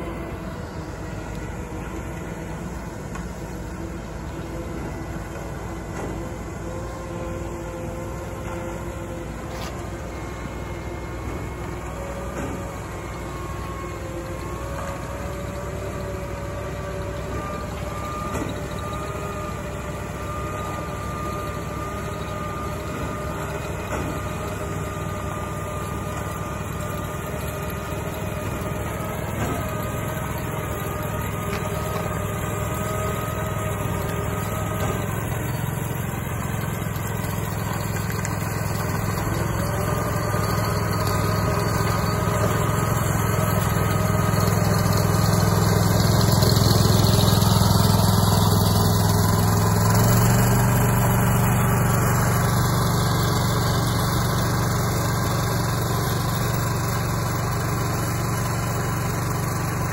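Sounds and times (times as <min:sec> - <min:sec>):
power trowel engine humming: 0:00.0 - 0:59.9.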